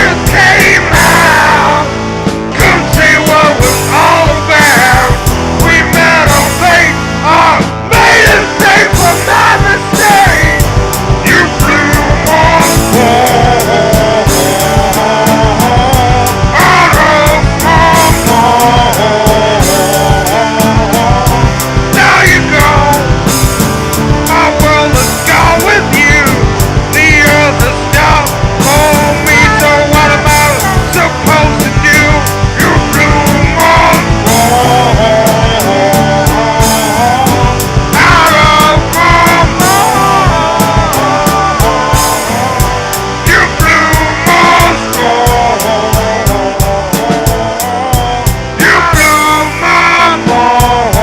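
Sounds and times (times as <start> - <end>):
drums steady beat: 0.0 - 51.0
guitar lead melody: 0.0 - 51.0
rock song: 0.0 - 51.0.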